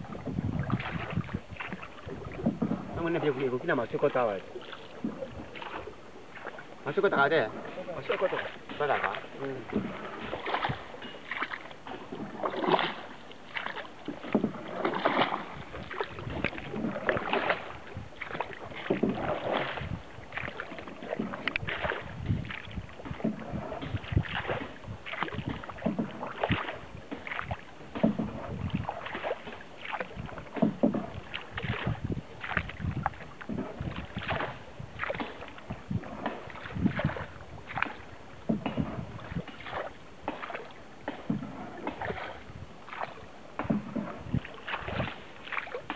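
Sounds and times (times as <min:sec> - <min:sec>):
paddle splashes and knocks: 0:00.0 - 0:45.9
water sloshing along hull: 0:00.0 - 0:45.9.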